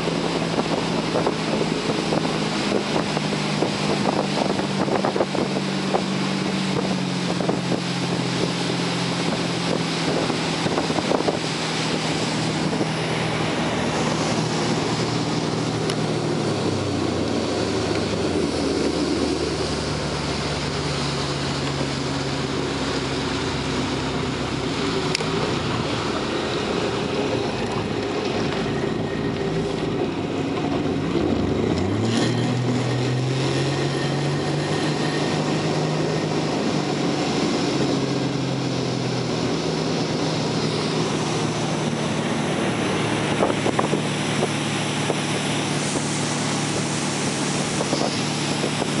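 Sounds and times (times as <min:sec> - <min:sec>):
boat engine running: 0:00.0 - 0:49.0
water rushing past hull: 0:00.0 - 0:49.0
wind buffeting microphone: 0:00.0 - 0:49.0.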